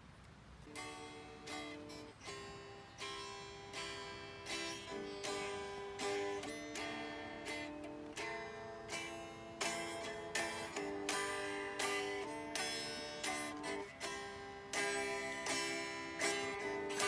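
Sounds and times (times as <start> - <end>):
acoustic guitar strumming chords: 0.7 - 17.0.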